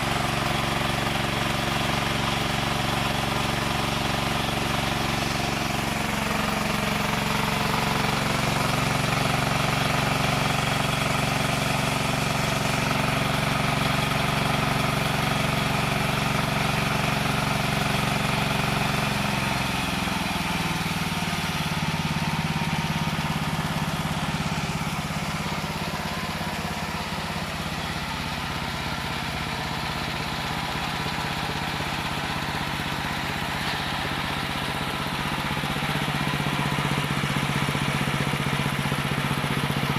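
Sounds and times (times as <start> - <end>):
engine-driven wood saw running: 0.0 - 39.9.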